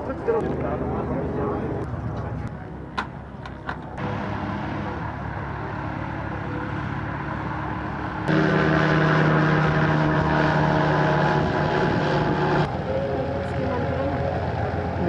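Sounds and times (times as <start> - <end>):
propeller aircraft engine: 0.0 - 15.0.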